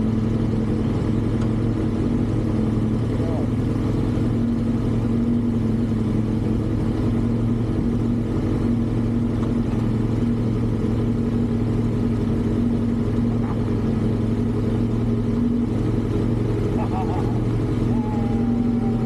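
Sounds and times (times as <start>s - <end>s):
vehicle engine running steadily: 0.0s - 19.0s.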